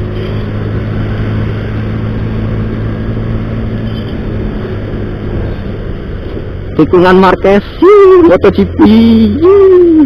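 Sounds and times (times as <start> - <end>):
road and wind noise: 0.0 - 10.0.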